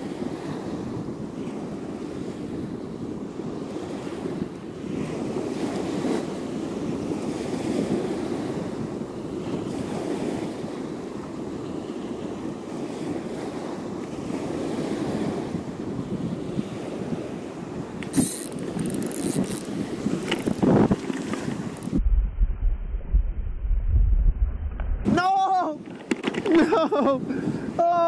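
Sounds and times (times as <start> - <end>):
surf washing onto beach: 0.0 - 22.0, 25.0 - 28.0
wind rumbling on microphone: 0.0 - 28.0.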